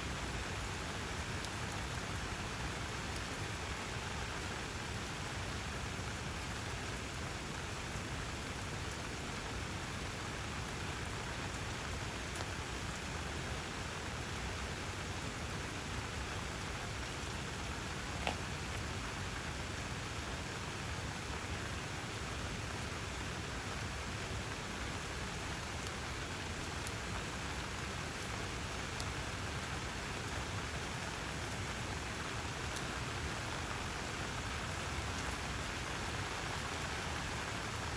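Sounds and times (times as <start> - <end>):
rain falling: 0.0 - 37.9.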